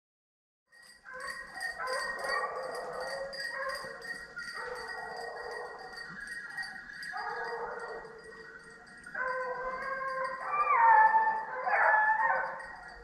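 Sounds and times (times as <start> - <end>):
hounds baying: 1.0 - 13.0.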